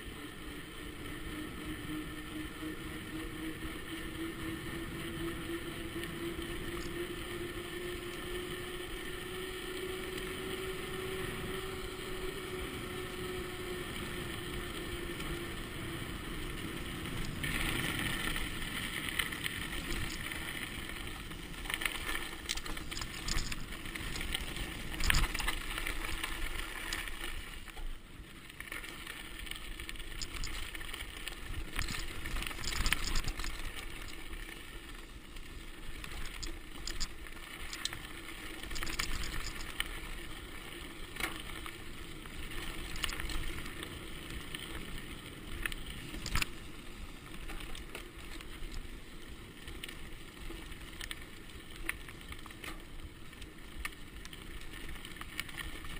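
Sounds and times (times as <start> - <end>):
bike rattling: 0.0 - 55.9.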